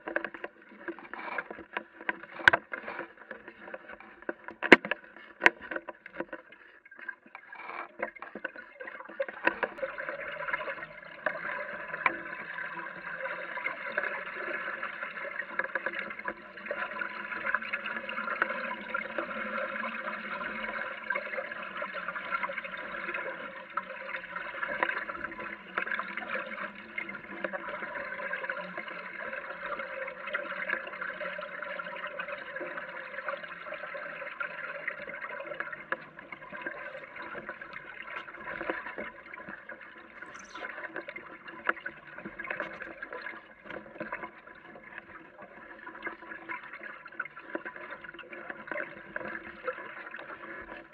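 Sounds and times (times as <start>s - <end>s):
water splashing along boat hull: 0.0s - 50.9s.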